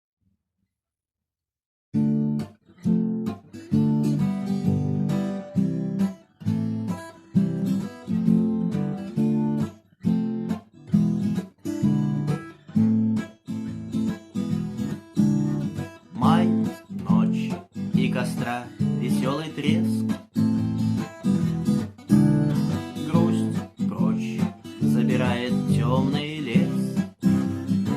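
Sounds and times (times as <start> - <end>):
acoustic guitar strumming: 2.0 - 27.9.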